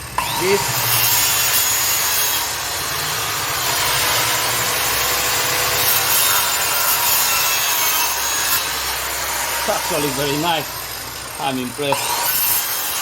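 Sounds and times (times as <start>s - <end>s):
circular saw cutting wood: 0.0s - 13.0s.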